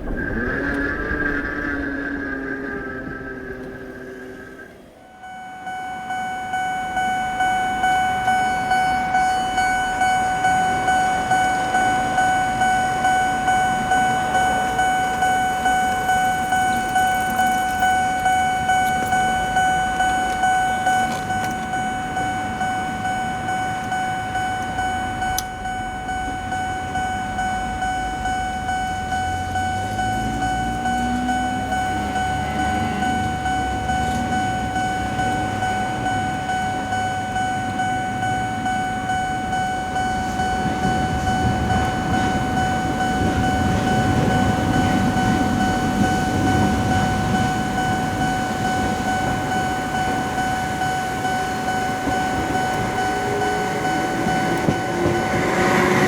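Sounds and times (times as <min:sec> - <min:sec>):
train low rumble: 0:00.0 - 0:56.0
level crossing warning bell: 0:05.1 - 0:56.0.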